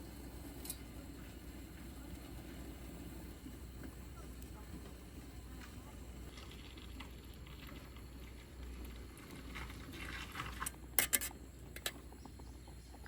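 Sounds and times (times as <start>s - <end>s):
faint cooking liquid sounds: 0.0s - 13.0s.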